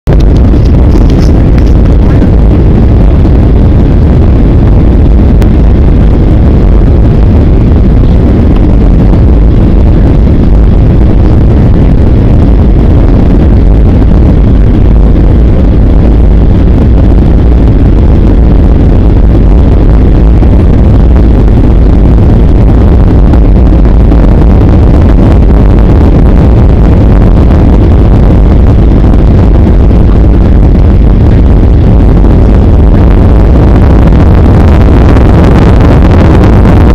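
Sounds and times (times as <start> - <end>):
jet engines and rushing air in cabin: 0.0 - 36.9.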